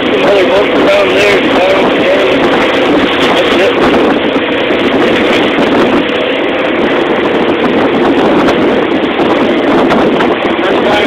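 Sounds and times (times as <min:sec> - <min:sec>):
motorboat engine rushing: 0:00.0 - 0:11.0
water rushing: 0:00.0 - 0:11.0
wind: 0:00.0 - 0:11.0.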